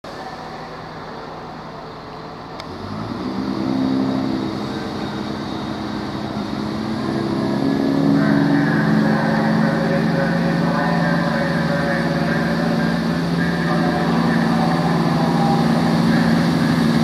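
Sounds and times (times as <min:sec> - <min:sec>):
diesel train engines revving: 0:00.1 - 0:17.0.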